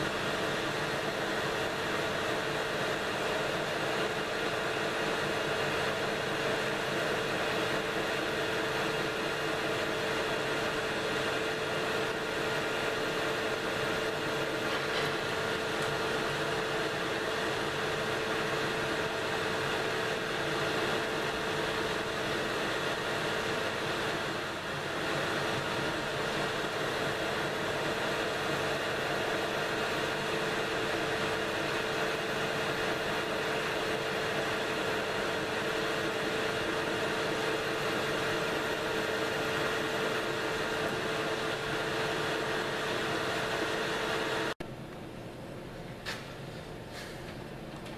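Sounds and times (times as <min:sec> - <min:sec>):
metal lathe whining hum: 0:00.0 - 0:44.6.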